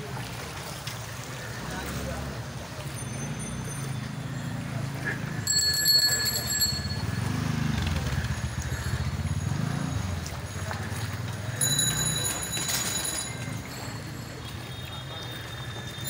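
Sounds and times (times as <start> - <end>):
wading through floodwater: 0.0 - 16.0
rickshaw bells ringing: 2.0 - 16.0.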